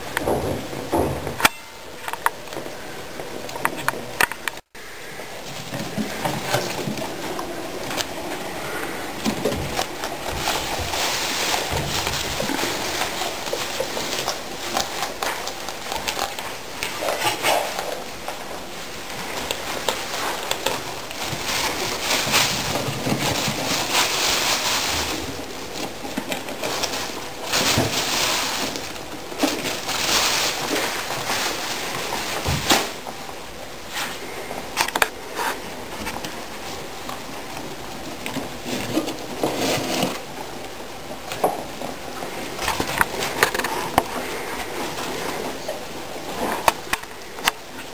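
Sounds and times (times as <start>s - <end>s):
guinea pig rustling in bedding: 4.8s - 47.9s.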